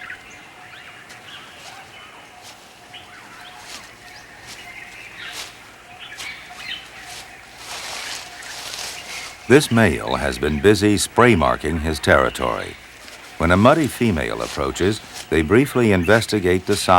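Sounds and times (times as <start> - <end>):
birds chirping: 0.0 - 16.9
steady background hiss: 0.0 - 16.9.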